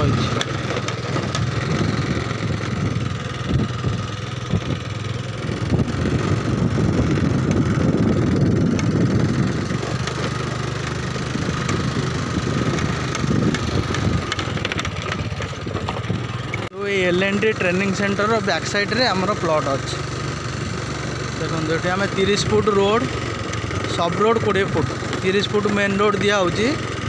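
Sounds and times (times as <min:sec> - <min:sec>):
knocks from rough ride: 0:00.0 - 0:16.7, 0:20.8 - 0:27.0
motorbike engine running: 0:00.0 - 0:27.0.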